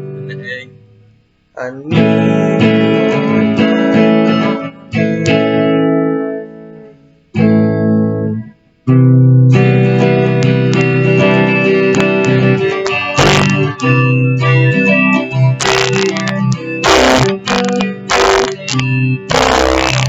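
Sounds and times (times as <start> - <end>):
guitar chords strummed: 0.0 - 1.2, 1.9 - 20.0.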